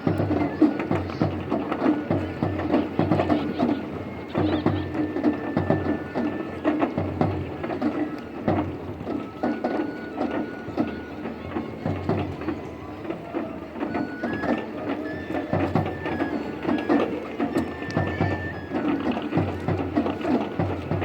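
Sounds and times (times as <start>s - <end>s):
bamboo flute high notes: 0.0s - 21.0s
clacking percussion: 0.0s - 21.0s
drum beats: 0.0s - 21.0s.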